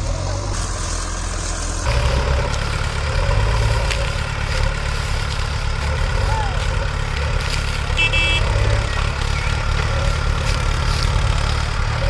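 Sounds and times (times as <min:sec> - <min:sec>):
tractor engine at low revs: 0:00.0 - 0:12.0.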